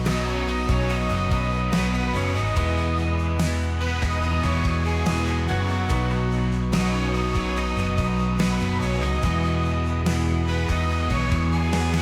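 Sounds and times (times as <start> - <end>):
instrumental pop ballad: 0.0 - 12.0.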